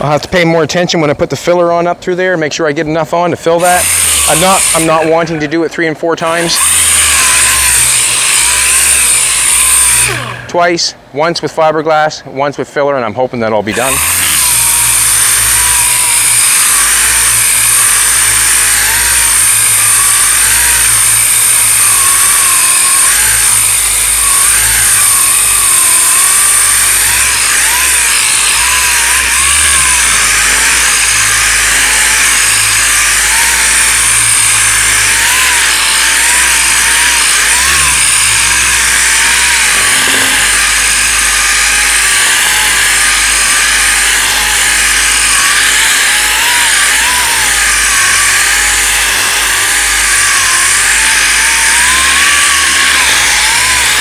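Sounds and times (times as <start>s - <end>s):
orbital sander sanding filler: 3.6s - 5.2s, 6.3s - 10.5s, 13.7s - 54.0s.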